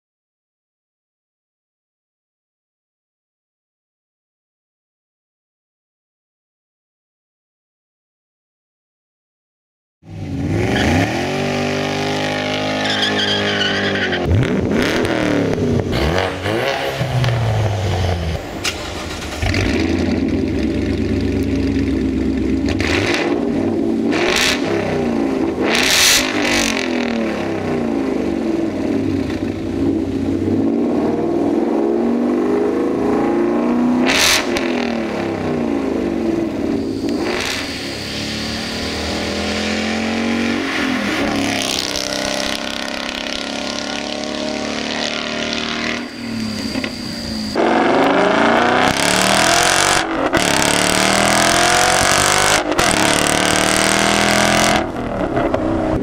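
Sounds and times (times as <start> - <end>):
car engine revving: 10.1 - 56.0.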